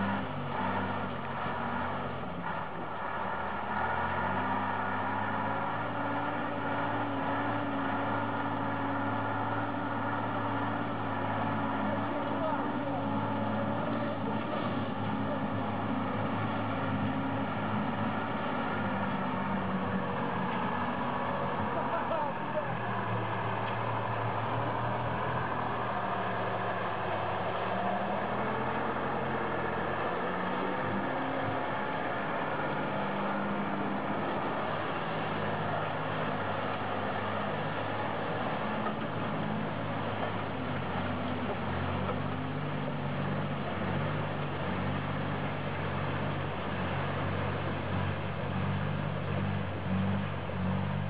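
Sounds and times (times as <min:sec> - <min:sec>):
diesel truck engines under load: 0:00.0 - 0:51.0.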